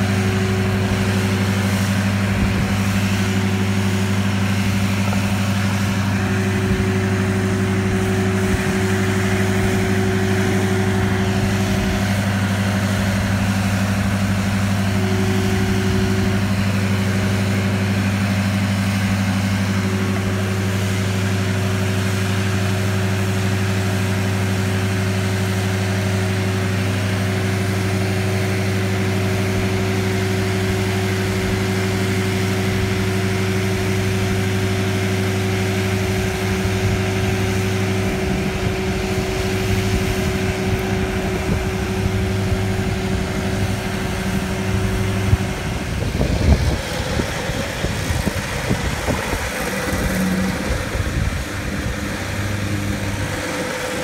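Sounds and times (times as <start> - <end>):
stump grinder engine running: 0.0 - 54.0.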